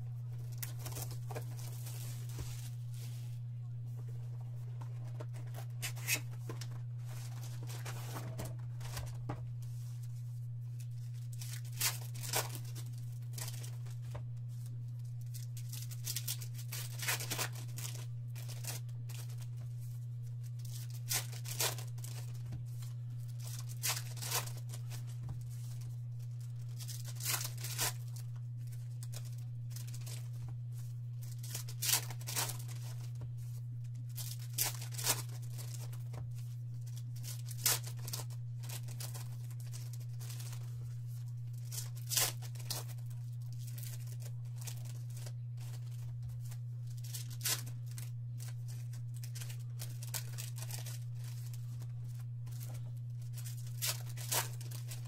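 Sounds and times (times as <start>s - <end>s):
low electrical hum: 0.0s - 55.0s
foil wrappers tearing and crinkling: 0.4s - 2.8s, 5.0s - 9.2s, 10.8s - 33.2s, 33.9s - 55.0s.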